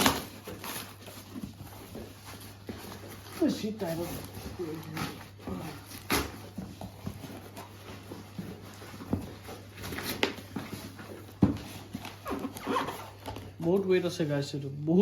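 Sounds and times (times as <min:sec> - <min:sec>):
cardboard packaging rustling: 0:00.0 - 0:14.4.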